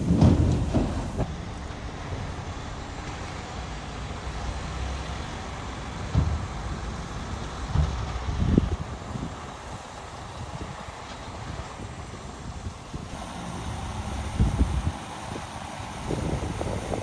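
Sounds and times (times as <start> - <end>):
diesel engine of heavy machinery: 0.0 - 17.0.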